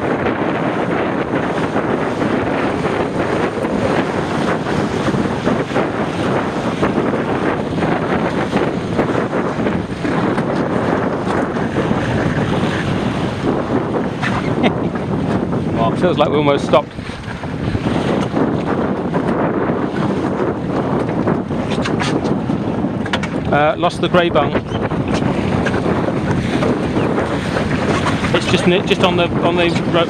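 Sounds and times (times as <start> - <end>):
water rushing along boat hull: 0.0 - 30.0
wind buffeting microphone: 0.0 - 30.0.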